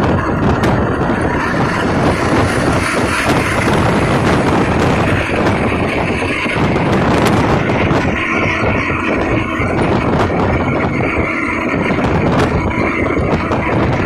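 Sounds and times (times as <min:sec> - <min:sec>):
truck engine and road noise: 0:00.0 - 0:14.0
wind rushing over microphone: 0:00.0 - 0:14.0.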